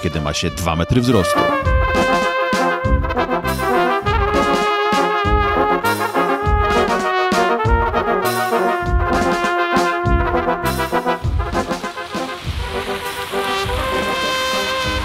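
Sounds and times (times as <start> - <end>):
brass-led tune over bass beat: 0.0 - 15.0.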